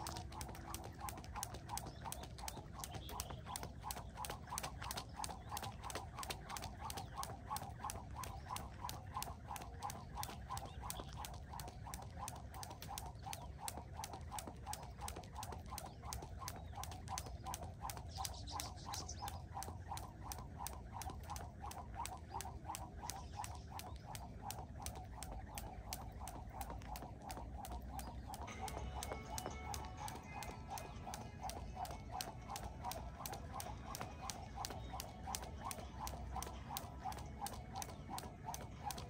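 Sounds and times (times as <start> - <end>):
skipping rope hitting ground: 0.0 - 39.0.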